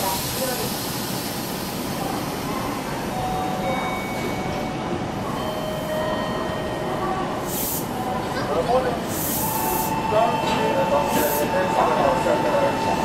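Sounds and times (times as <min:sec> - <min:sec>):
trains running into station: 0:00.0 - 0:13.0.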